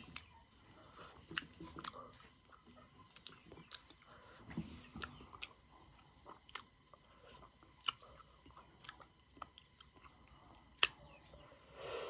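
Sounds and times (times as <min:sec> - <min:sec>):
person chewing food: 0:00.0 - 0:11.2.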